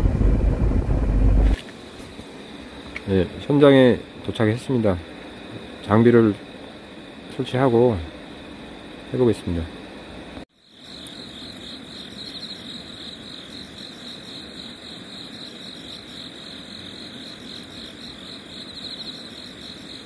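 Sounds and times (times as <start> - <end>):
night insects chirping: 1.5 - 20.0
low background hiss: 1.7 - 20.0.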